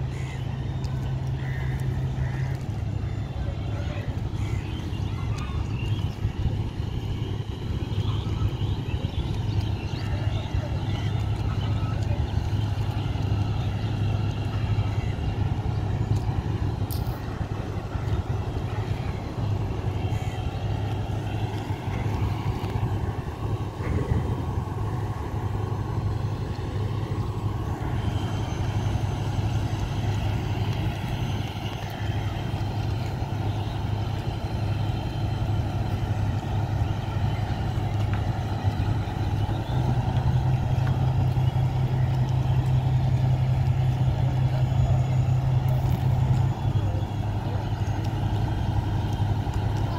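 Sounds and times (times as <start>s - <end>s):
large vehicle engine humming: 0.0s - 49.9s.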